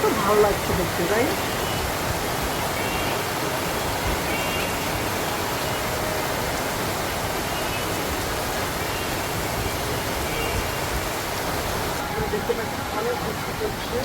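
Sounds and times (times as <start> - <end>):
heavy rain pouring: 0.0 - 14.0
running water: 0.0 - 14.0.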